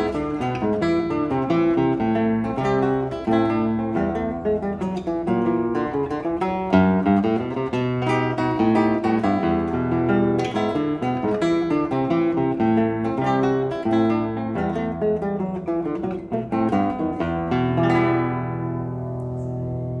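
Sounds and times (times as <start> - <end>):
classical guitar fingerpicking: 0.0 - 20.0.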